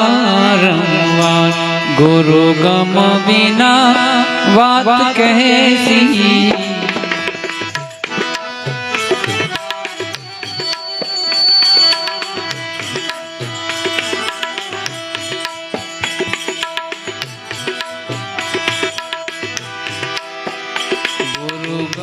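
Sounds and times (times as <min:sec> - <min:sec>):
held melody notes: 0:00.0 - 0:22.0
tabla playing: 0:00.0 - 0:22.0.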